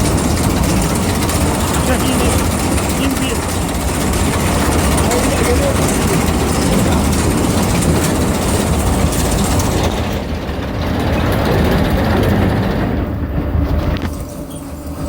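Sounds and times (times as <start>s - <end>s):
baling machine engine hum: 0.0s - 15.0s.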